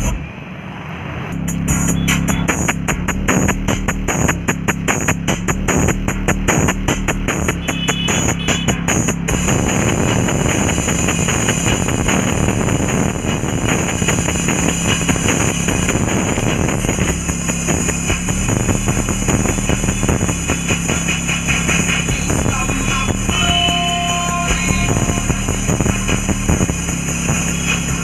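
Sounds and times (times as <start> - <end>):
car engine and road rumble: 0.0 - 28.0
music: 1.4 - 28.0.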